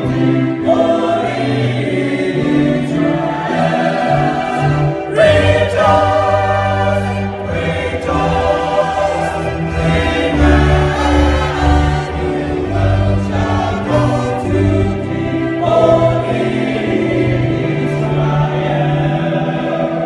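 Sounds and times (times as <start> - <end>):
choir singing a hymn: 0.0 - 20.0
electronic keyboard chords: 0.0 - 20.0.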